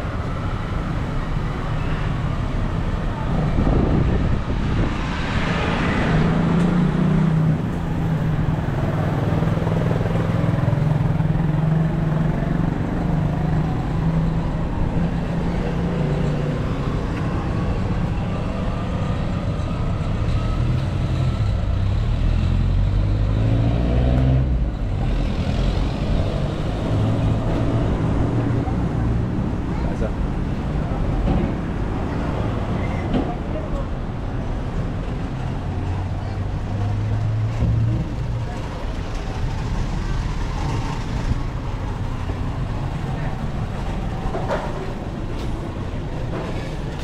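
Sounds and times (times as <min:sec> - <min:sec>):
vehicle engines humming: 0:00.0 - 0:47.0.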